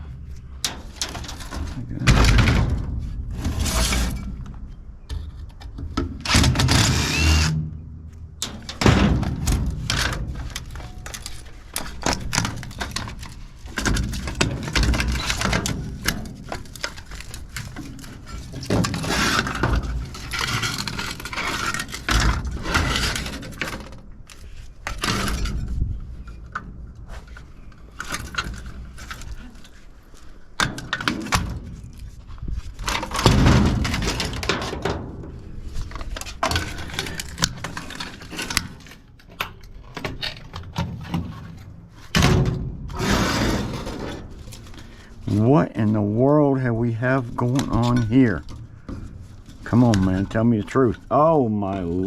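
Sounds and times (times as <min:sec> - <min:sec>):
metal parts clanking and scraping: 0:00.2 - 0:07.6, 0:08.4 - 0:45.4.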